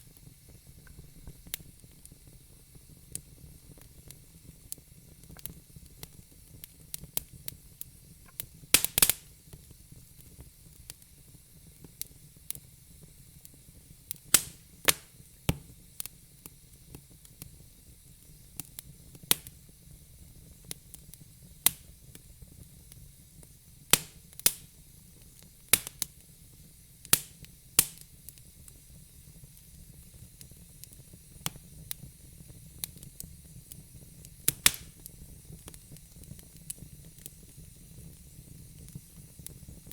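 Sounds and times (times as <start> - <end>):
low hiss of fire: 0.0 - 39.9
wood fire crackling: 0.0 - 39.9.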